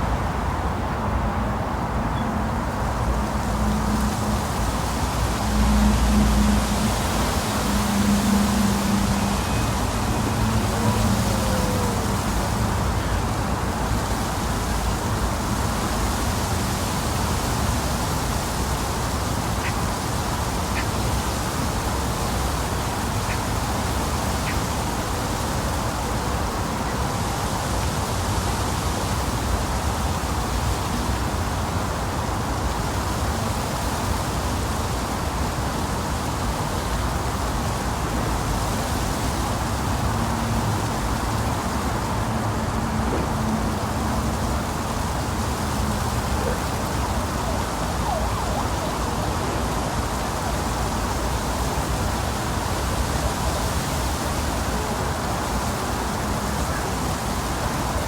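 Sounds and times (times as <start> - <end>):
rushing outdoor ambience: 0.0 - 58.0.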